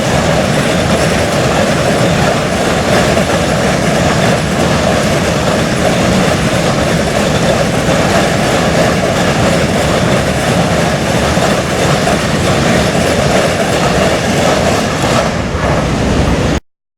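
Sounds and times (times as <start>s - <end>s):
train wheels on rails: 0.0s - 16.6s.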